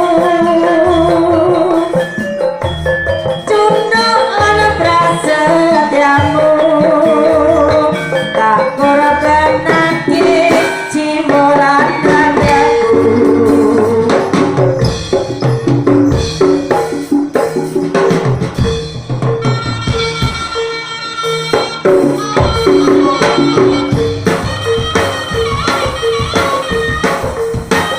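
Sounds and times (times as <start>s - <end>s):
drumming: 0.0s - 27.9s
wavering melody line: 0.0s - 27.9s
steady held tone: 0.6s - 17.3s, 18.6s - 27.9s.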